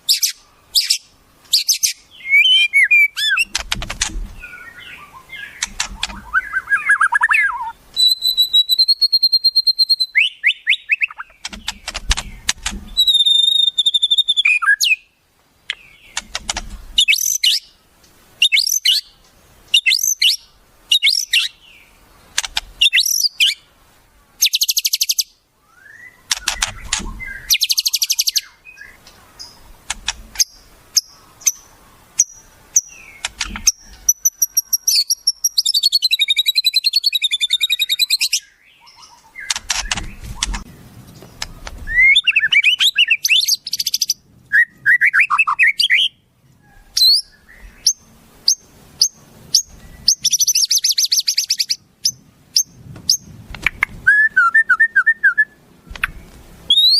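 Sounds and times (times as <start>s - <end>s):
sharp bird chirps: 0.0s - 15.1s, 15.7s - 17.8s, 18.4s - 23.7s, 24.4s - 29.6s, 30.3s - 40.7s, 41.3s - 46.2s, 47.0s - 56.9s
high bird whistles: 0.1s - 3.5s, 4.4s - 15.1s, 17.0s - 17.7s, 18.4s - 19.1s, 19.7s - 21.6s, 22.8s - 23.7s, 24.4s - 29.6s, 30.4s - 40.7s, 41.9s - 46.2s, 47.0s - 53.3s, 54.0s - 56.9s.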